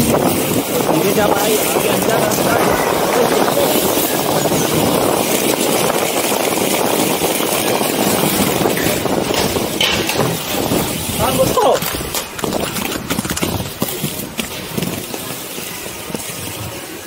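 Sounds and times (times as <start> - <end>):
skate wheels rolling on pavement: 0.0 - 17.0
wind on microphone: 0.0 - 17.0.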